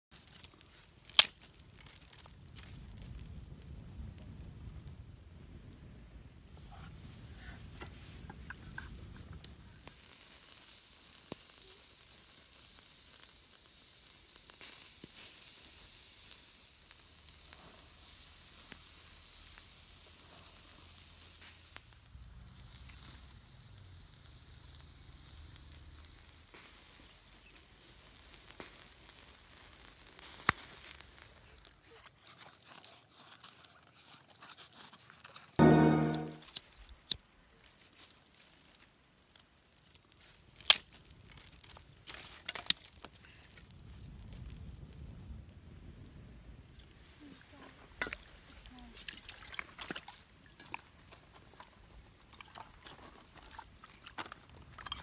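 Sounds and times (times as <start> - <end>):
wood fire crackling and hissing: 0.0 - 55.0.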